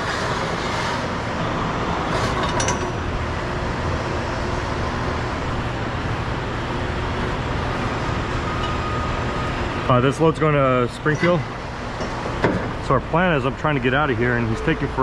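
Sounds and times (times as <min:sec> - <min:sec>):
vehicles and machinery rumbling: 0:00.0 - 0:15.0.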